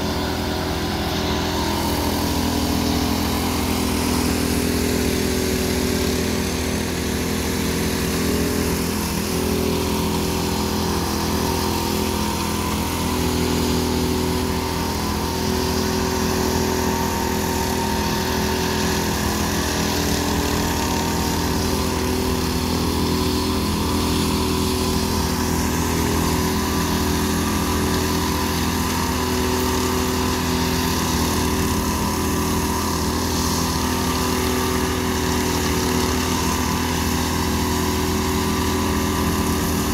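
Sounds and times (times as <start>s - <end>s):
power trowel engine running: 0.0s - 39.9s.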